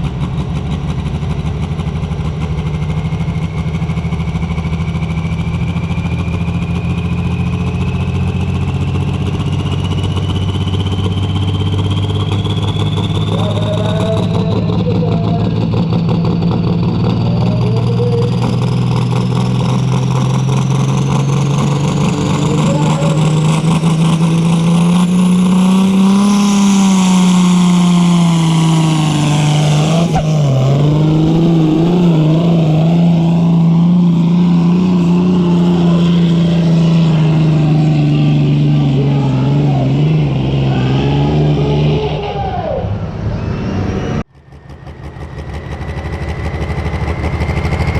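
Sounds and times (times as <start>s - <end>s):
diesel engine running at high revs: 0.0s - 47.9s.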